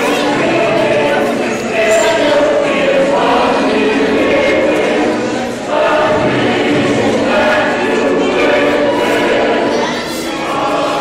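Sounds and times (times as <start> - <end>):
children singing in unison: 0.0 - 11.0.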